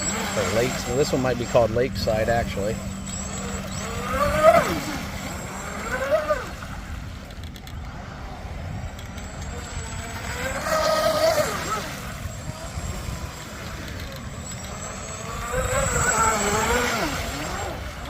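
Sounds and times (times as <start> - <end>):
electric motor whining: 0.0 - 18.0
wind and water rushing: 0.0 - 18.0.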